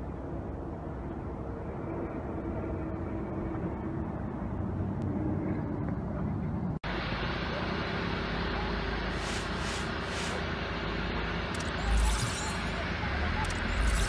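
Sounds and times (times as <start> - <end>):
faint engine hum: 0.0 - 14.0.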